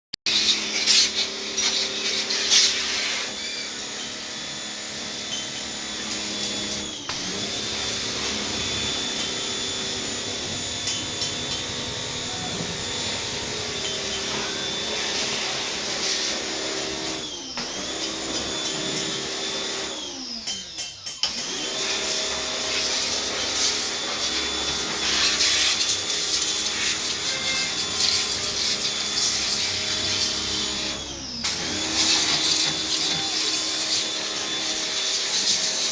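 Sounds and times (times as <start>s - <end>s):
electric motor whining: 0.4s - 35.9s.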